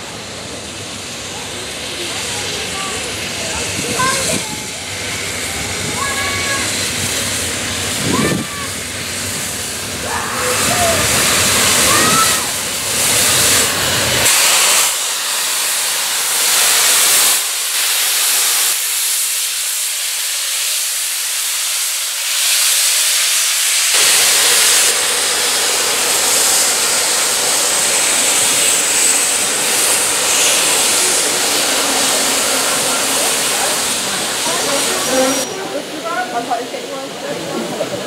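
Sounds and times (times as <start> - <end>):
steam hissing from locomotive: 0.0 - 38.0.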